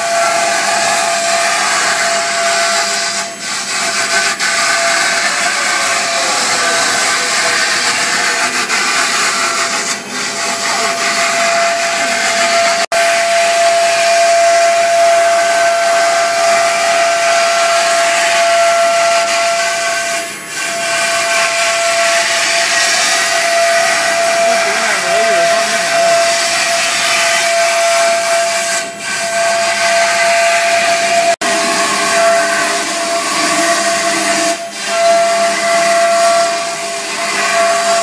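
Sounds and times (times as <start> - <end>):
router spindle whining: 0.0 - 38.0.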